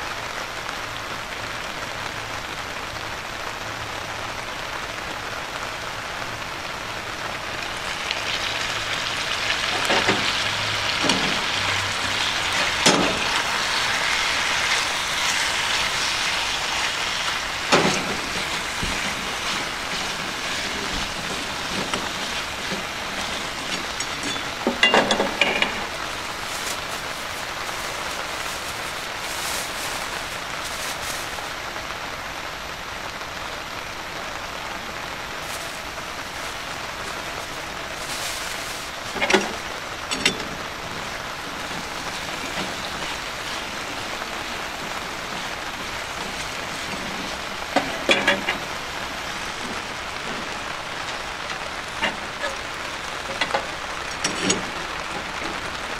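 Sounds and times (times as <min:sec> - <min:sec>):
heavy rain: 0:00.0 - 0:55.9
food sizzling in oil: 0:06.4 - 0:31.9, 0:35.0 - 0:55.9.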